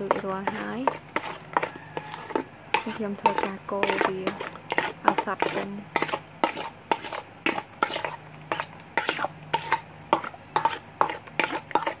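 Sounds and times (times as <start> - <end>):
metal spoon scraping metal bowl: 0.0 - 12.0.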